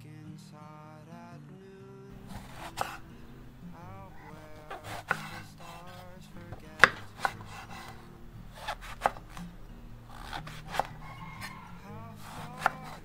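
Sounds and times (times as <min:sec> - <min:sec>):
knife cutting on wooden board: 0:02.2 - 0:13.0.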